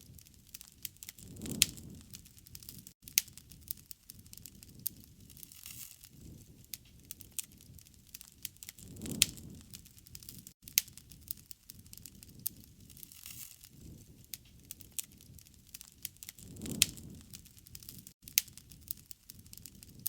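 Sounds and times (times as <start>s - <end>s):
fire sharp pops: 0.0s - 20.0s
low steady fire rustle: 0.0s - 20.0s.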